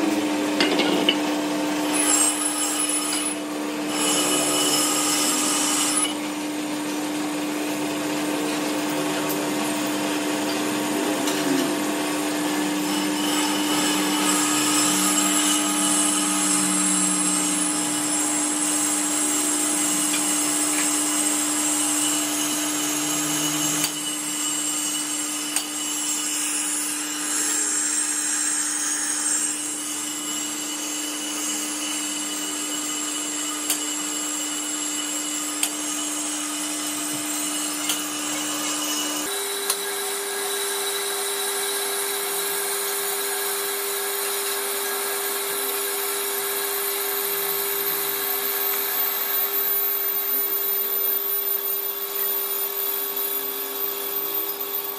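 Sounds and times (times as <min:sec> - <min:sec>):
high scraping ring of cutting tool: 0:01.9 - 0:06.3, 0:11.3 - 0:54.9.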